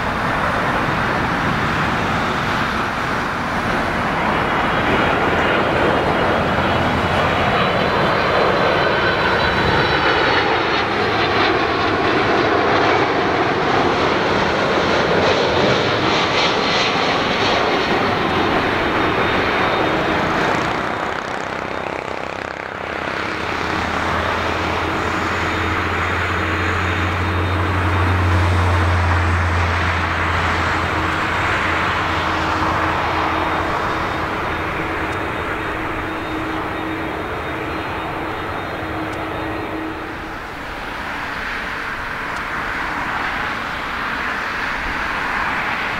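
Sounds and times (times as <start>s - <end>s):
jet airliner engines: 0.0s - 45.9s.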